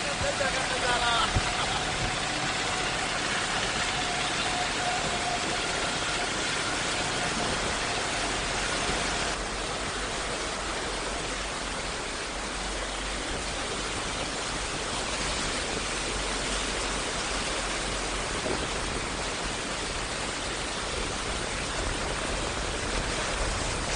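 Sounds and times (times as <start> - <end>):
water hissing: 0.0 - 23.9.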